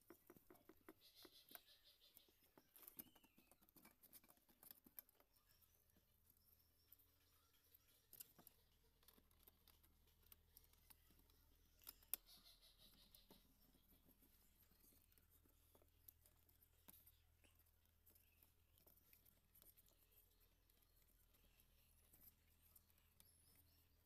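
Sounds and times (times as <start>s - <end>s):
small clicks and taps: 0.0s - 24.0s.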